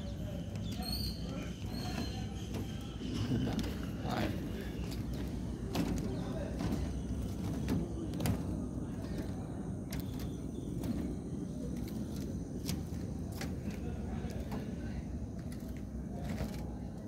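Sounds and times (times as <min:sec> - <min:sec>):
footsteps on steel mesh: 0:00.4 - 0:17.0
steady low noise: 0:02.2 - 0:17.0.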